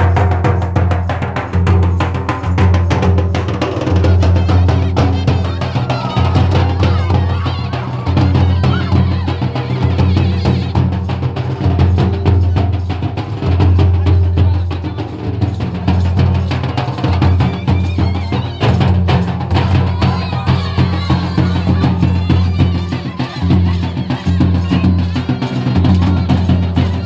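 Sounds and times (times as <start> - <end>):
fast hand drums: 0.0 - 27.0
shehnai melody: 3.8 - 27.0.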